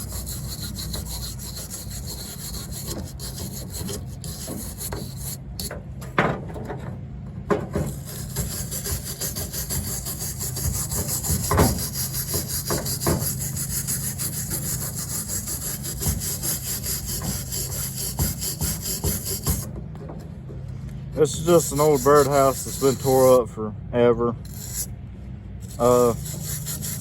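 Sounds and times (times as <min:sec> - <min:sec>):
hand scraping coconut shell: 0:00.0 - 0:05.7, 0:07.8 - 0:19.7, 0:21.1 - 0:23.5, 0:24.5 - 0:24.9, 0:25.6 - 0:27.0.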